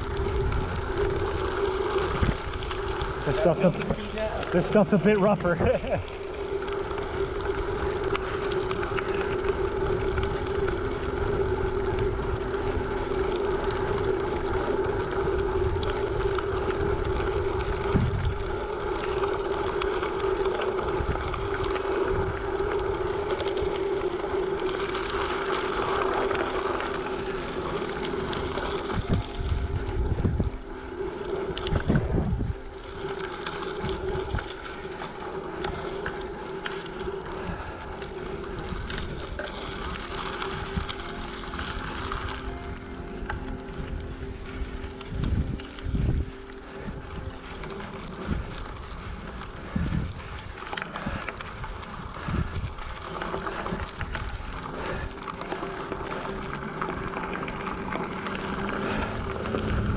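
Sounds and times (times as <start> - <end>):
bicycle tyres rolling on gravel: 0.0 - 59.9
constant hum: 0.0 - 59.9
wind rumble on microphone: 0.0 - 59.9.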